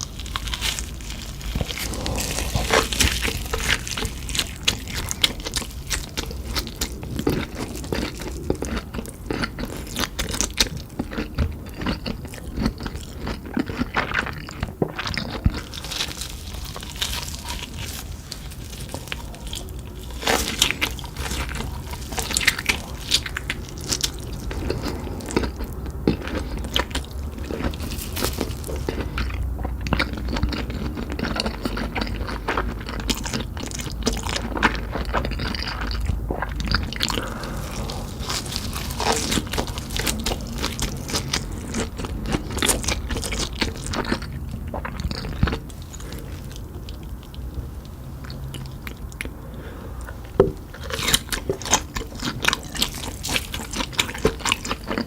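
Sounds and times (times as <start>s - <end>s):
crunchy bites and chewing: 0.0s - 55.0s.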